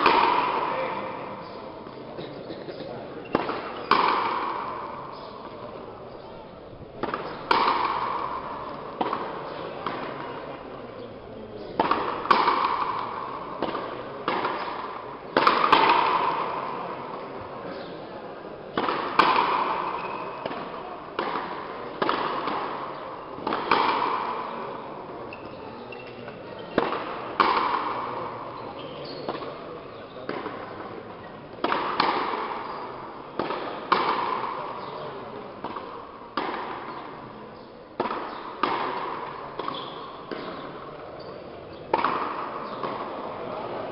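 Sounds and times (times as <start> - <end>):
ball hits with echo: 0.0 - 43.9.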